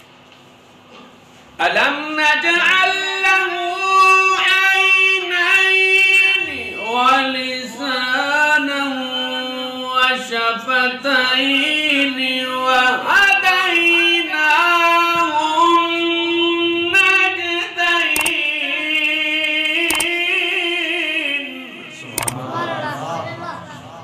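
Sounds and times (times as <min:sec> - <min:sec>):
man chanting recitation: 0:01.6 - 0:24.0.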